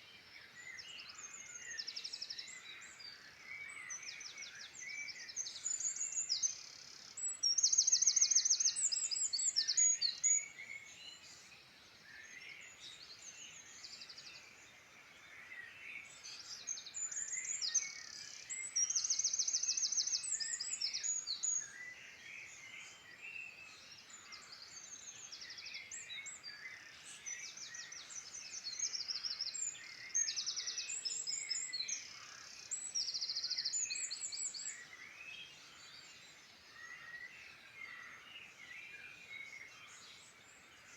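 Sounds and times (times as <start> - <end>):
birds chirping chorus: 0.0 - 40.9
songbird singing with fast trills: 0.0 - 40.9.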